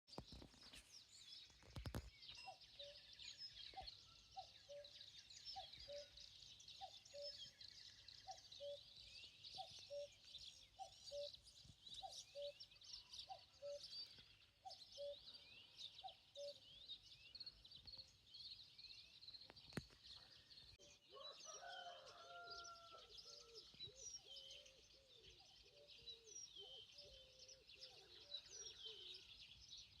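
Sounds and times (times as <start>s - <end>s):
songbirds chirping: 0.1s - 30.0s
lower varied bird calling: 2.3s - 17.6s, 20.4s - 30.0s.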